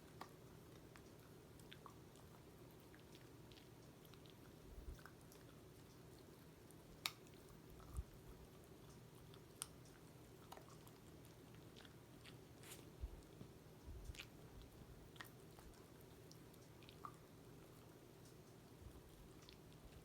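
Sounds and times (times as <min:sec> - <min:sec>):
dog chewing a treat: 0:00.0 - 0:20.0
low steady hum: 0:00.0 - 0:20.0.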